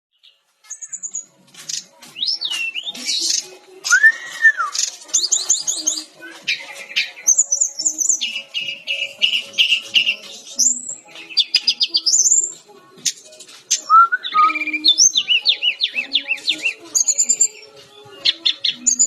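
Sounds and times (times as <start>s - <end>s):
bird singing trills and whistles: 0.1s - 19.0s.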